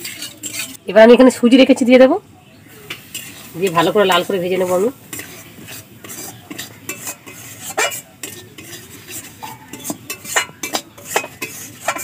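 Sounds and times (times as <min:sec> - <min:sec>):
metal spatula scraping metal pan: 0:00.0 - 0:01.3, 0:02.9 - 0:12.0.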